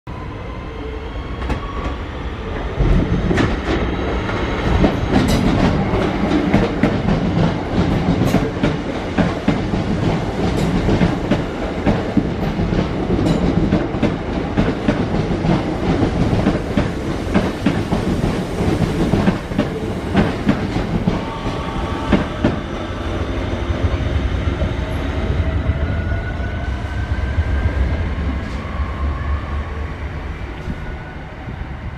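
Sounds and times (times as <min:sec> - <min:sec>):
rising train whine: 0:00.1 - 0:31.9
train rumble: 0:01.2 - 0:31.9.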